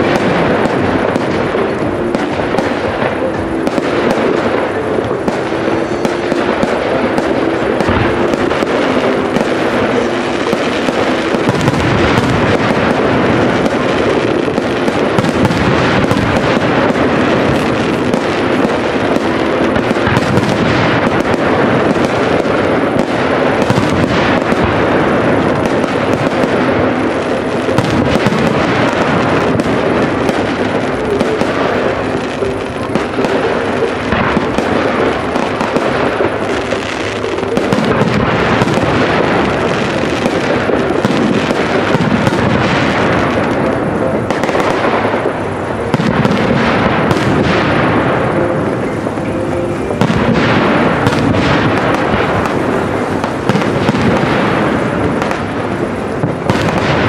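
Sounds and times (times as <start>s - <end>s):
firework shells bursting: 0.0s - 57.0s.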